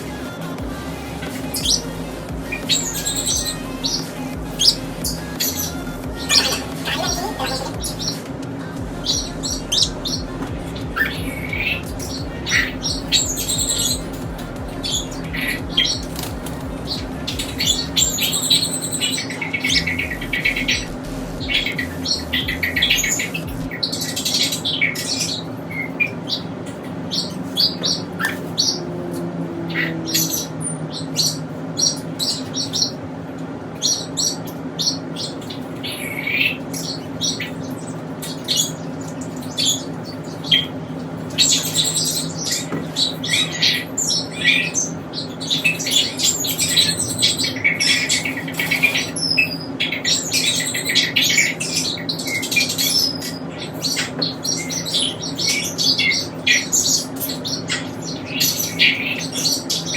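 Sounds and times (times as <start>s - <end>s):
parrots chirping and squawking: 0.0s - 59.9s
steady low hum: 0.0s - 59.9s.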